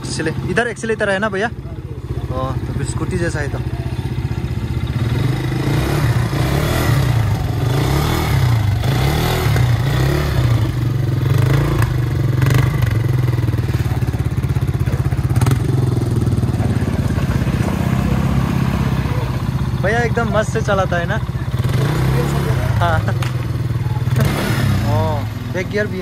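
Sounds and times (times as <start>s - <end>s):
buggy engine running: 0.0s - 26.0s.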